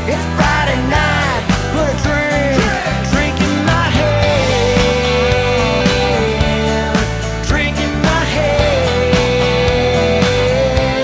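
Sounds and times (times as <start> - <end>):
person singing: 0.0 - 11.0
rock song: 0.0 - 11.0
sliding lead line: 0.0 - 11.0.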